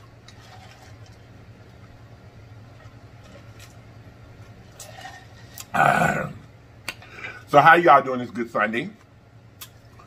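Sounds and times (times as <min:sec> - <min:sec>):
washing machine humming: 0:00.0 - 0:10.0.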